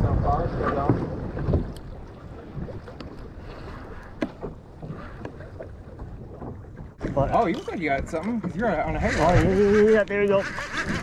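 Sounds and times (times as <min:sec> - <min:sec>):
wind and water rumble: 0:00.0 - 0:11.0.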